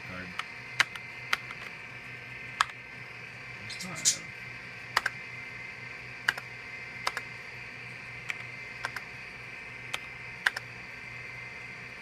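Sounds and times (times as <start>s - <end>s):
computer hum and whine: 0.0s - 12.0s.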